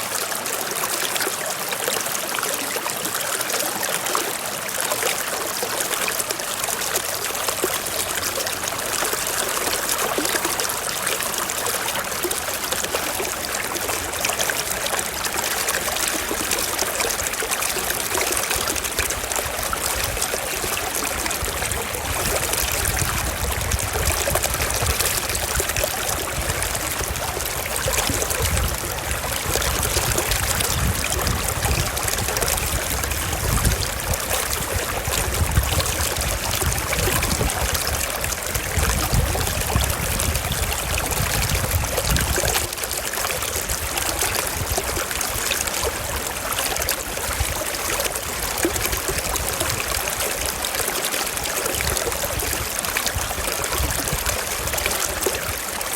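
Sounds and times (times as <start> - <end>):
stream running over rocks: 0.0 - 55.9.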